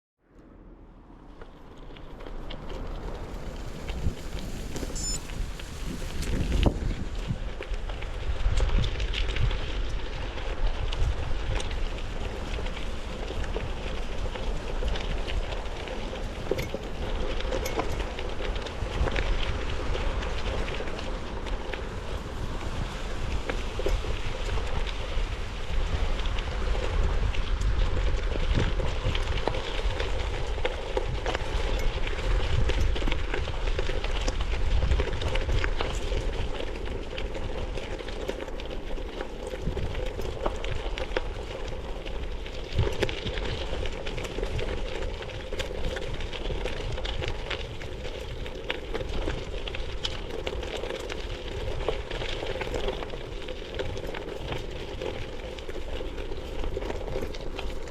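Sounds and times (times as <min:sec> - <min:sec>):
bicycle tyres crackling on dirt: 0:01.2 - 0:57.9
wind buffeting microphone: 0:01.2 - 0:57.9.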